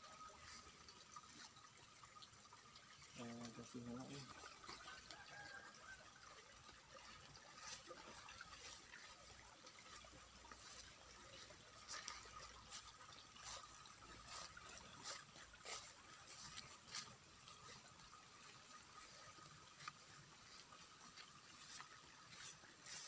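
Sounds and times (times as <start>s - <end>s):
water trickling: 0.0s - 23.0s
footsteps in sandals on grass: 3.2s - 23.0s.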